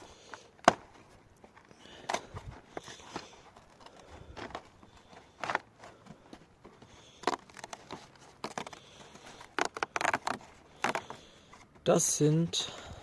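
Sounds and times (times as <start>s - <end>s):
paper packaging rustling and tearing: 0.0s - 12.5s.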